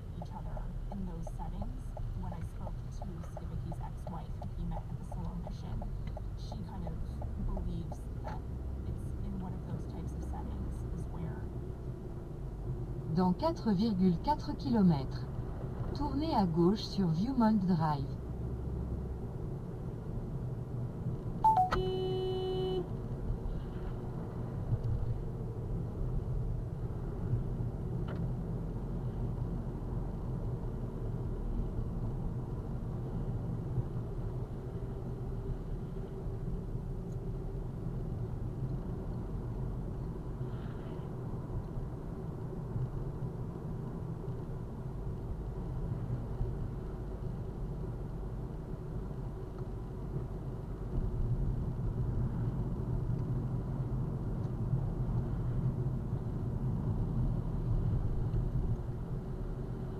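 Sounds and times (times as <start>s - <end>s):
car interior low rumble: 0.0s - 59.9s.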